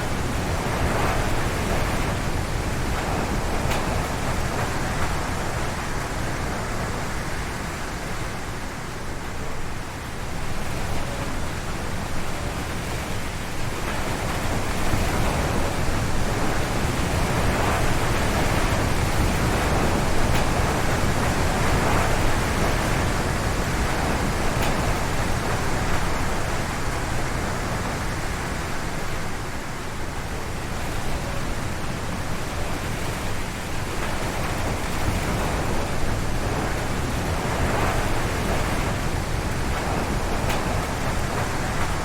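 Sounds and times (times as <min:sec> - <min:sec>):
strong wind through trees: 0:00.0 - 0:42.0.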